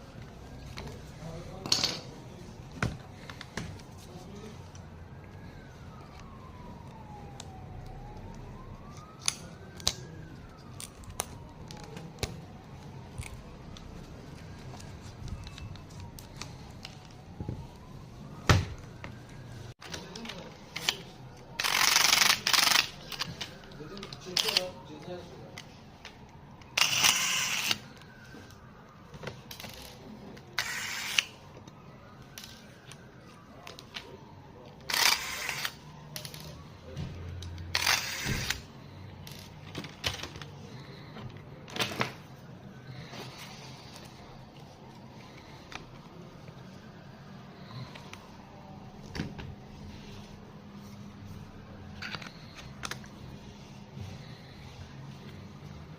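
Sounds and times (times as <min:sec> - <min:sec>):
distant siren wailing: 0:00.0 - 0:55.9.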